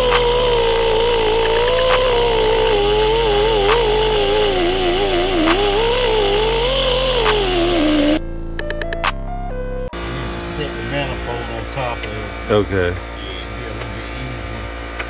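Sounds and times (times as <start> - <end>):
die grinder grinding metal: 0.0 - 8.2, 10.2 - 15.0.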